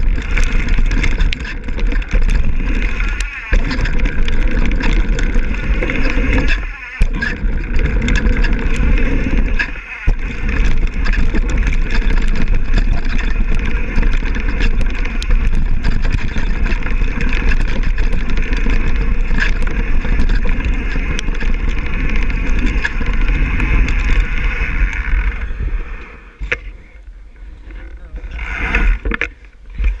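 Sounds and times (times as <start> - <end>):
chain and frame rattles: 0.0 - 24.4
wind rushing over microphone: 0.0 - 26.7
bike tyre noise: 0.0 - 30.0.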